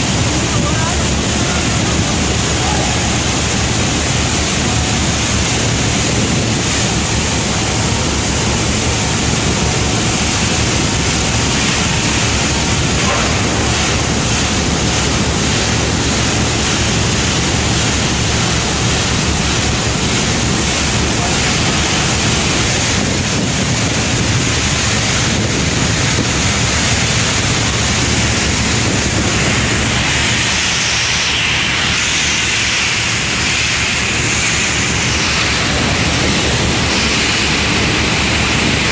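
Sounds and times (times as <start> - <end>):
loud industrial rushing noise: 0.0 - 38.9.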